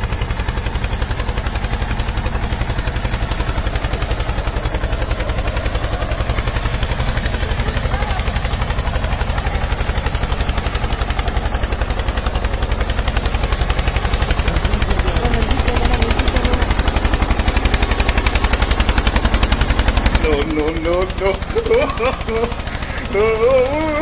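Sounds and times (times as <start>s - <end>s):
tractor engine chugging: 0.0s - 24.0s.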